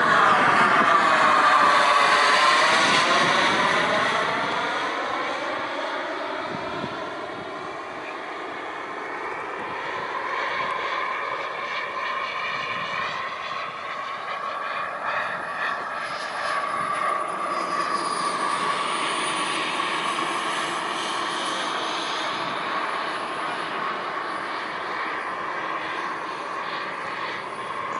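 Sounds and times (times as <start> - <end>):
model jet whine: 0.0 - 27.9.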